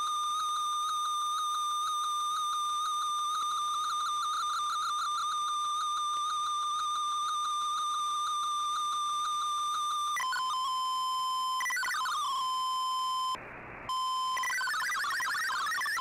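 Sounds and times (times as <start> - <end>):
steady digital signal tone: 0.0 - 16.0.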